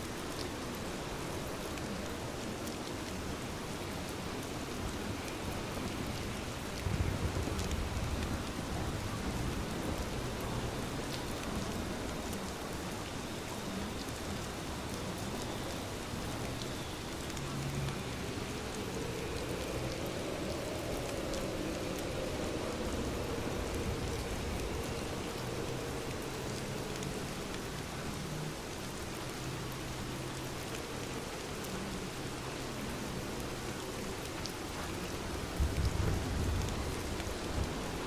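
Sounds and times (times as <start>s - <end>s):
steady rainfall: 0.0s - 38.0s.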